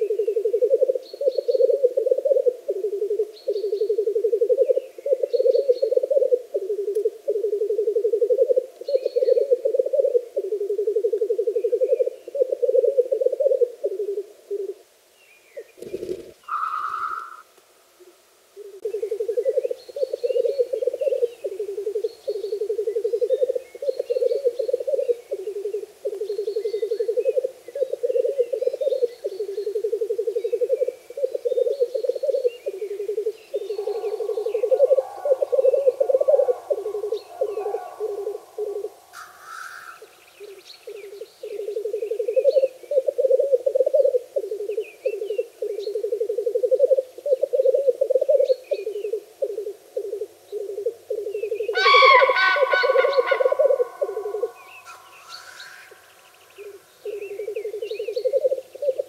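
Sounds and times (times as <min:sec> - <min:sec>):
grouse bubbling coo: 0:00.0 - 0:14.8, 0:18.6 - 0:39.2, 0:40.4 - 0:55.0, 0:56.6 - 0:59.0.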